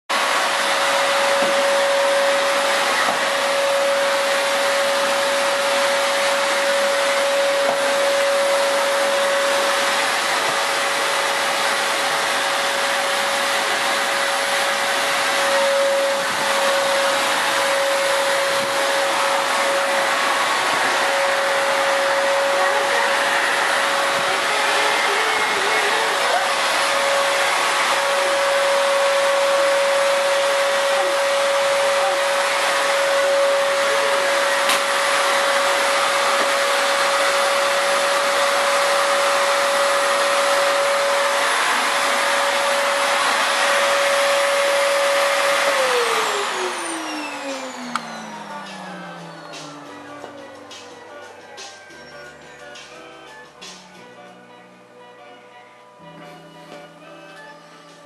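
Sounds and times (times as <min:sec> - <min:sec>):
vacuum cleaner running: 0:00.1 - 0:58.0.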